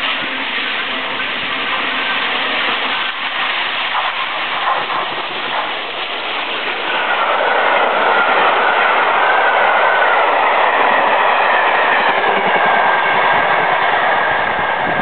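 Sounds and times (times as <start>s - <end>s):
wheels clattering over rail joints: 0.0s - 13.8s
steam train passing: 0.0s - 15.0s.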